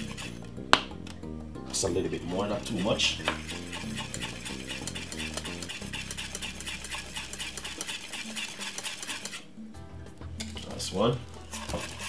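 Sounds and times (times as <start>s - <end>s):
whisk scraping and tapping pan: 0.0s - 0.5s, 1.7s - 9.5s, 10.4s - 12.0s.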